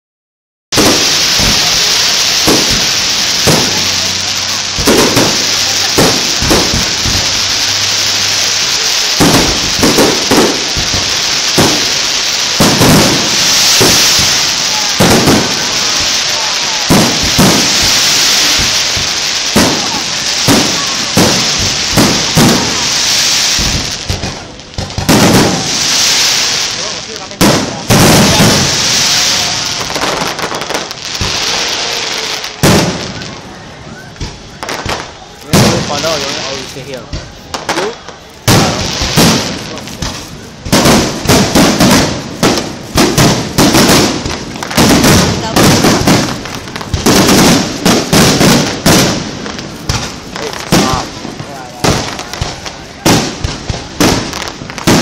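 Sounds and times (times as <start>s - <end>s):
fireworks bangs: 0.7s - 55.0s
steady hiss: 0.8s - 55.0s.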